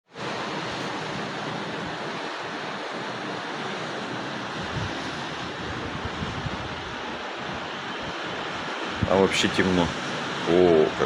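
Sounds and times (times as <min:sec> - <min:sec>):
surf breaking on beach: 0:00.1 - 0:11.0
wind buffeting microphone: 0:00.6 - 0:11.0.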